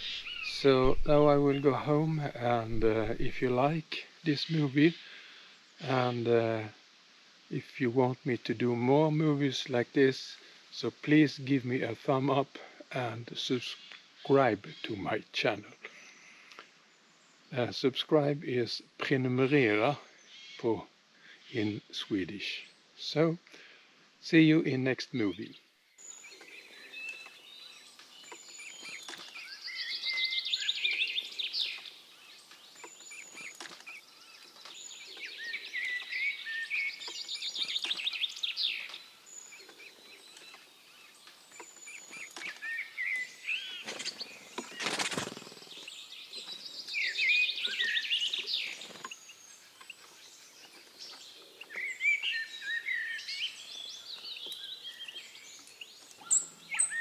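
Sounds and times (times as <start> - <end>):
songbirds singing and calling: 0.0 - 57.0.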